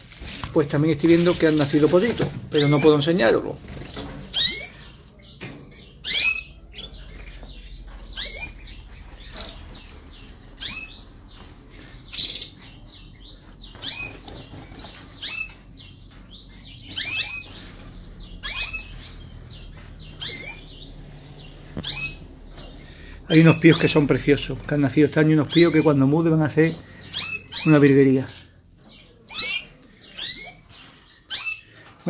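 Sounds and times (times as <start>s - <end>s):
canaries chirping: 0.0s - 32.0s.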